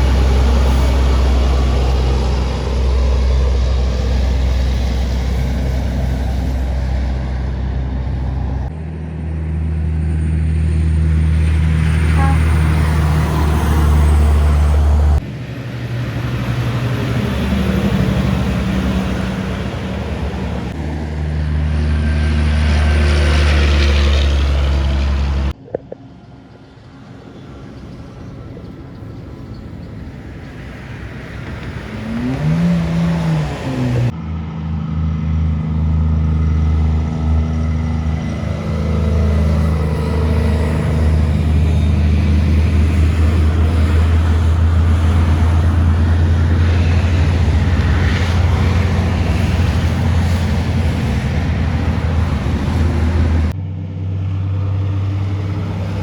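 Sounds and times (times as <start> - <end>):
deep truck engine drone: 0.0 - 56.0
heavy trucks passing: 0.0 - 56.0
traffic noise: 0.0 - 56.0.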